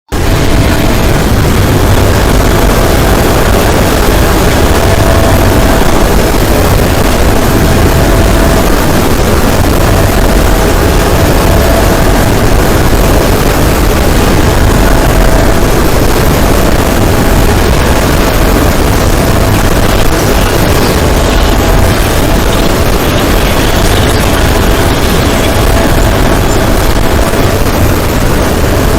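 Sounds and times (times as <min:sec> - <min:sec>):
loud distorted noise: 0:00.1 - 0:28.9.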